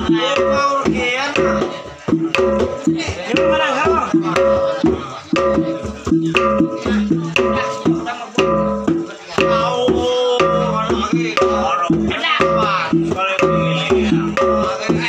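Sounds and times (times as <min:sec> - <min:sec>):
rhythmic music with percussion: 0:00.0 - 0:15.0.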